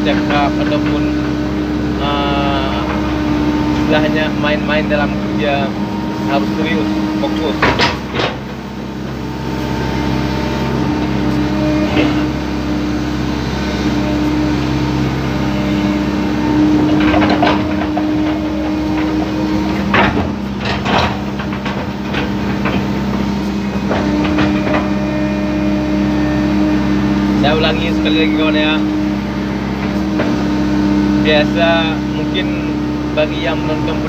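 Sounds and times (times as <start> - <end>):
excavator diesel engine running: 0.0 - 34.0
hydraulic hum: 0.0 - 34.0.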